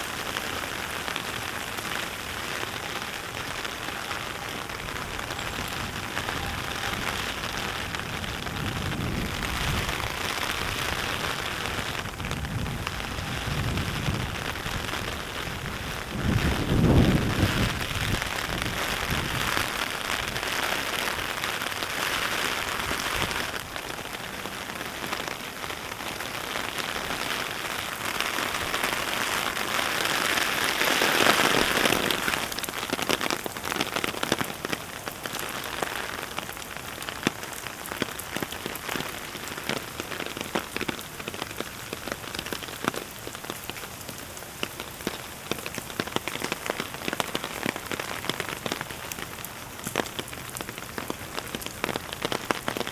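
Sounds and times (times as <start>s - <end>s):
raindrops ticking: 0.0s - 52.9s
steady rain: 0.0s - 52.9s.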